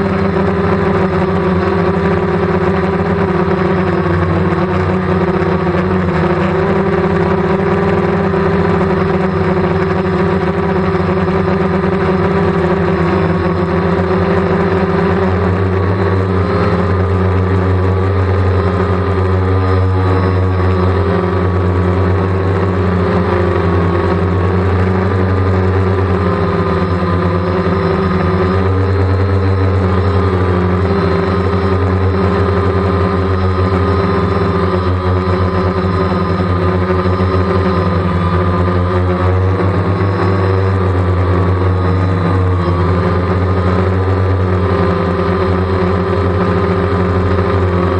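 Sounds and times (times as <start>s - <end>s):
drone propellers whirring: 0.0s - 47.9s.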